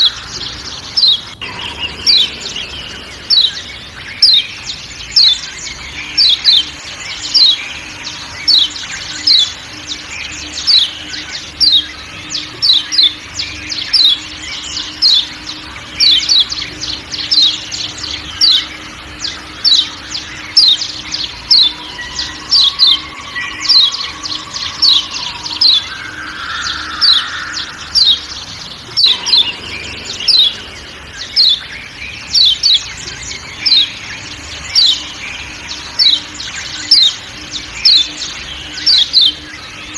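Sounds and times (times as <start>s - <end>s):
bird chip calls: 0.0s - 39.9s
faint forest sounds: 0.0s - 39.9s.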